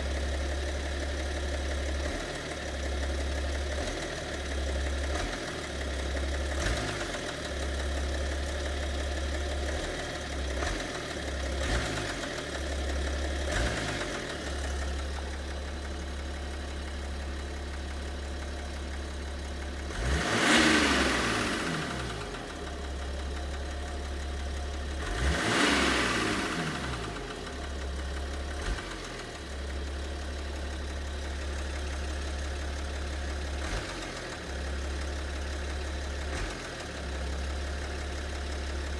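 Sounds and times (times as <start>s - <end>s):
diesel engine idling and revving: 0.0s - 38.9s
engine knock: 0.0s - 38.9s.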